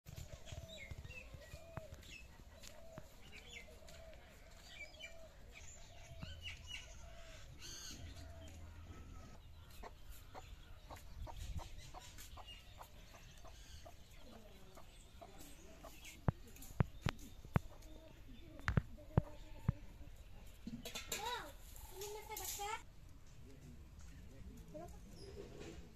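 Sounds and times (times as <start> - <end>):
small birds chirping: 0.1 - 25.9.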